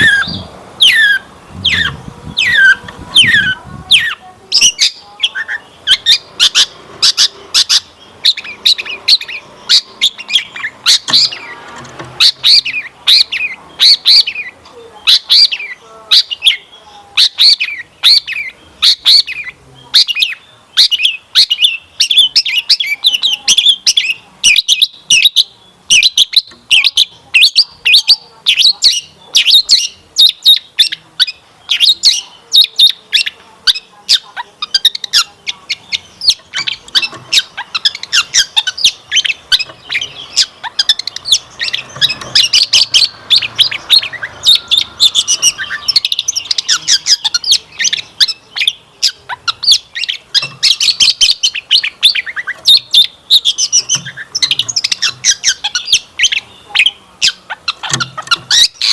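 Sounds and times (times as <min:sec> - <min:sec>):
shrike singing chirps: 0:00.0 - 0:58.9.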